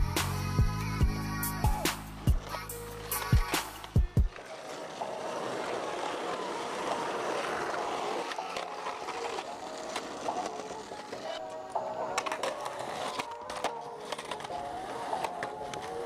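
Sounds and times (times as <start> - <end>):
skateboard wheels rolling: 0.0 - 16.0
skateboard grinding on curb: 1.6 - 16.0.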